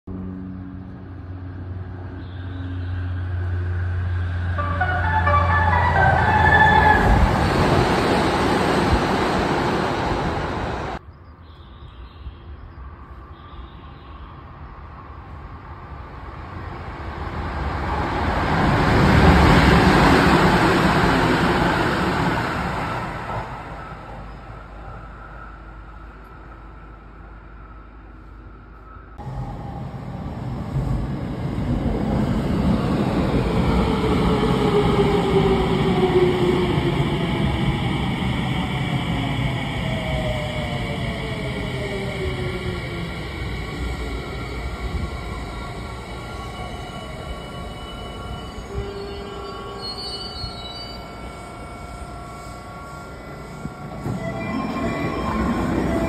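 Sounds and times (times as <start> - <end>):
electric train passing at speed: 0.1 - 11.3, 12.2 - 56.0.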